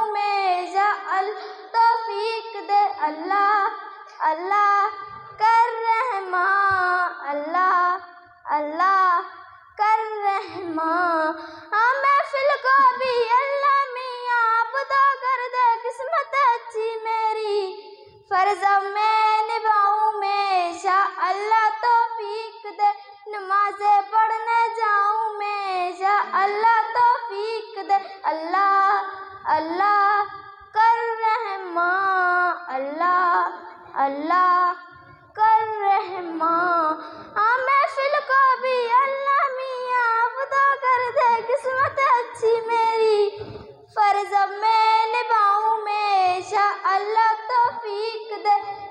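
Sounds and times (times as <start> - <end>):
girl singing into a microphone: 0.0 - 48.9.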